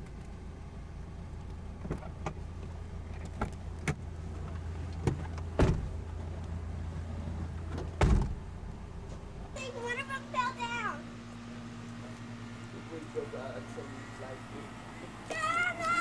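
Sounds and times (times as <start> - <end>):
car cabin engine hum: 0.0 - 16.0.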